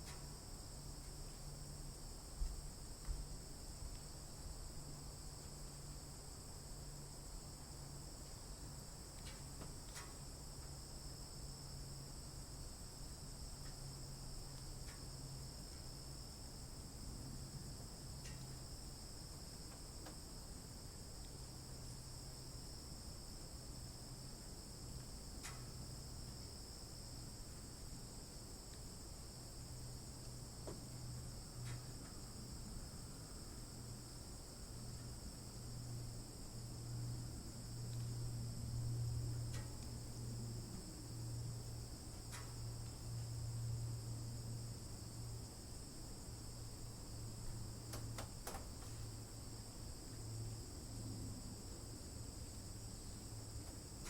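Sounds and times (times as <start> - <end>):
insect chorus: 0.0 - 54.0
low steady hum: 0.0 - 54.0.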